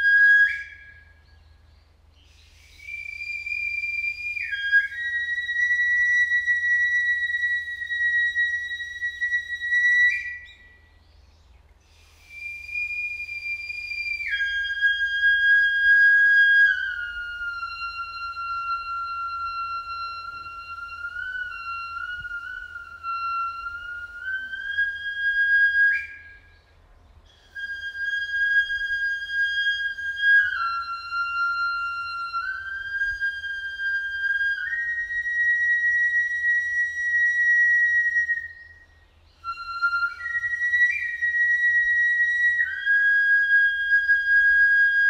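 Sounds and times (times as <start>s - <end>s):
flute playing long high notes: 0.0s - 1.3s, 2.3s - 10.9s, 11.9s - 26.6s, 27.3s - 45.0s.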